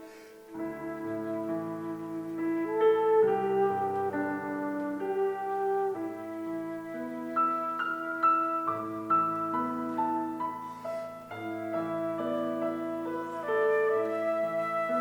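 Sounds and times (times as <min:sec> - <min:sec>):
slow instrumental music: 0:00.0 - 0:15.0.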